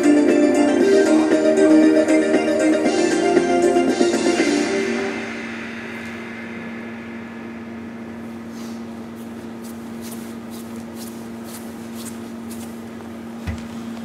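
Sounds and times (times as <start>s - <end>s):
low indoor hall hum: 0.0s - 14.0s.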